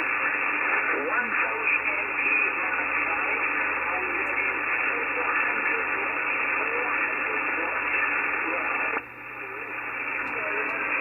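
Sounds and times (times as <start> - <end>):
faint distant radio voices: 0.0 - 11.0
radio band noise hiss: 0.0 - 11.0.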